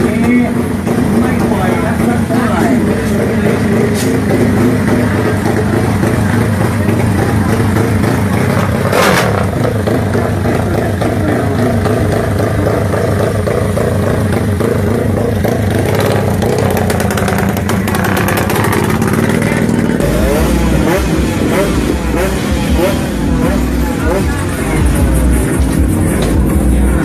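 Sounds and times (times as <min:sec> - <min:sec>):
drag bike engine running loudly: 0:00.0 - 0:27.0
rapid engine clatter: 0:00.0 - 0:27.0.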